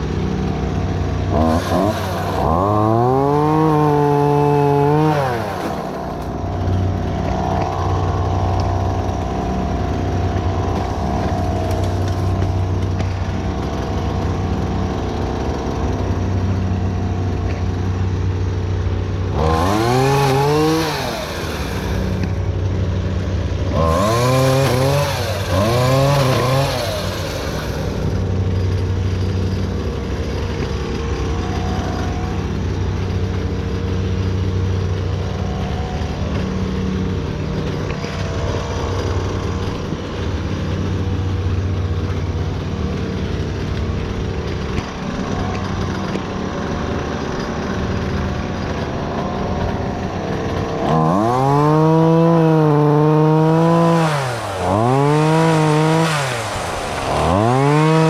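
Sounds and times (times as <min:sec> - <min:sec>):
chainsaw engine idling and revving: 0:00.0 - 0:58.0.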